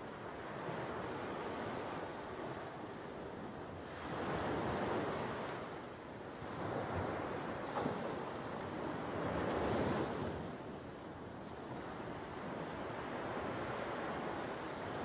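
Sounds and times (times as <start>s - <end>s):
ocean waves breaking on beach: 0.0s - 15.0s.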